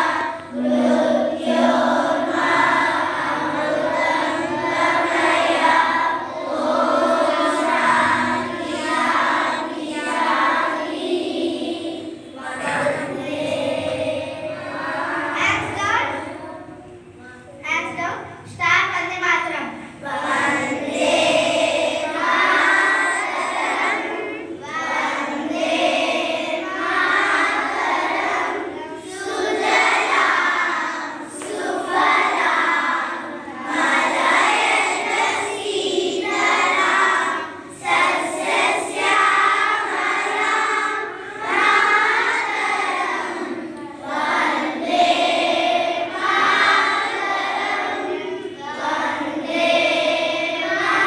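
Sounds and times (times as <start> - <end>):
children singing in unison: 0.0 - 17.2, 19.9 - 51.0.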